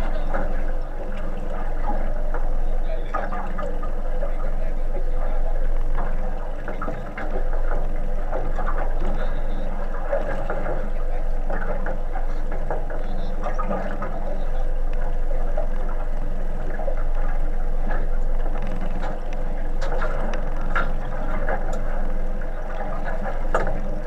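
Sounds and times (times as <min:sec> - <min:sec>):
steady low hum: 0:00.0 - 0:24.0
water sloshing against boat hull: 0:00.0 - 0:24.0.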